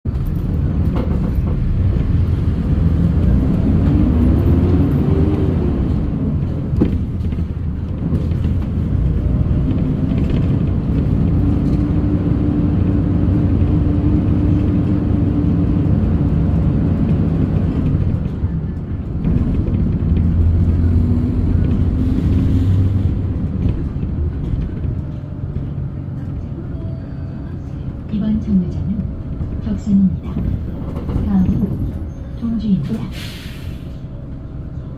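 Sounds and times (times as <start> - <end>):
engine low rumble: 0.0 - 34.9.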